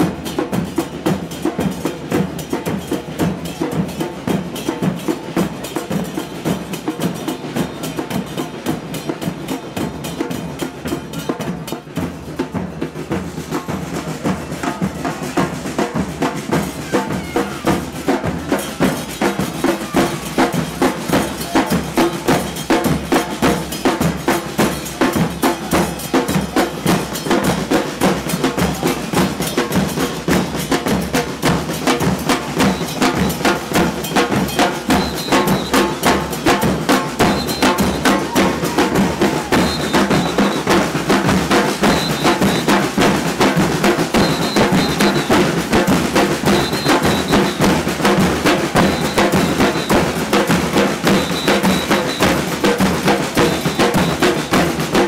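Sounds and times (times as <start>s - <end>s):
percussion band drumming: 0.0s - 55.0s
snare drum: 0.0s - 55.0s.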